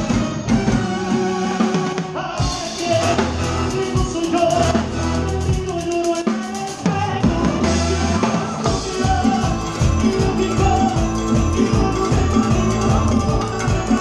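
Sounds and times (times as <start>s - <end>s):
bass guitar: 0.0s - 14.0s
live band playing: 0.0s - 14.0s
person singing: 1.6s - 14.0s.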